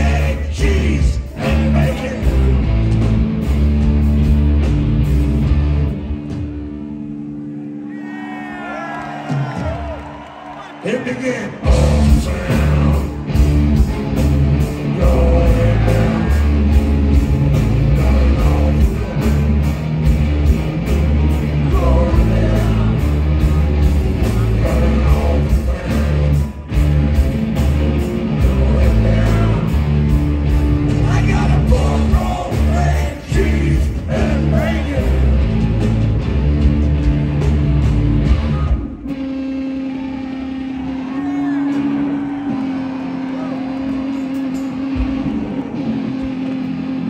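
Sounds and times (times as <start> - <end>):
rock band playing: 0.0 - 47.0.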